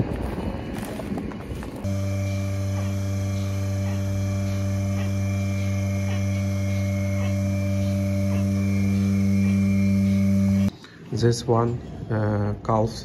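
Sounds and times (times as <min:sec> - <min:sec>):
vacuum pump electric hum: 0:00.0 - 0:10.7.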